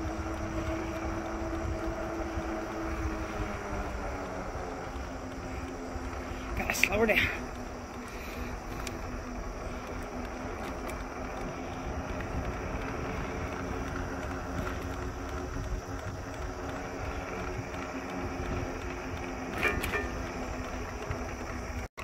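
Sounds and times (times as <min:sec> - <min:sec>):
faint steady hum: 0:00.0 - 0:21.9
wind rush on microphone: 0:00.0 - 0:21.9
tyre noise on road: 0:00.0 - 0:22.0.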